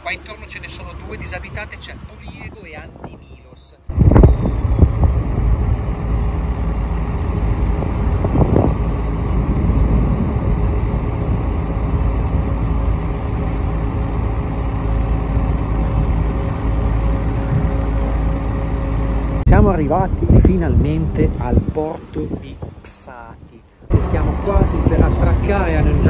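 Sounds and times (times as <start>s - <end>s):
ferry diesel engines droning: 0.0s - 26.0s.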